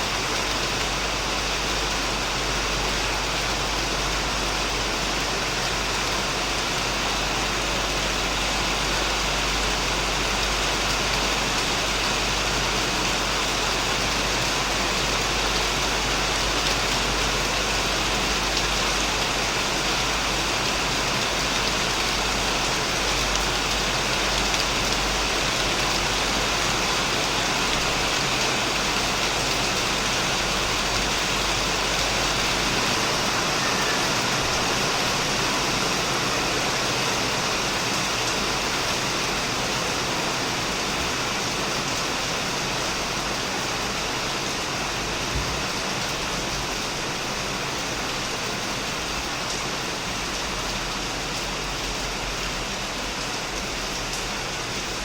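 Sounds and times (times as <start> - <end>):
heavy rain on a shed: 0.0 - 55.0.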